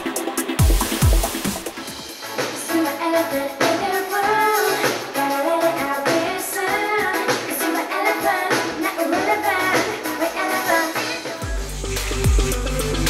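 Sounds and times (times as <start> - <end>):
instrumental backing with beats: 0.0 - 13.0
woman singing pop song: 2.2 - 13.0.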